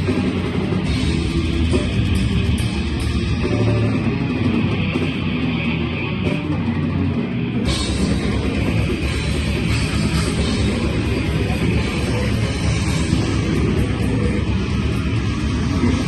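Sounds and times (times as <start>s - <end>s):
distorted electric guitars: 0.0s - 16.0s
drum kit: 0.0s - 16.0s.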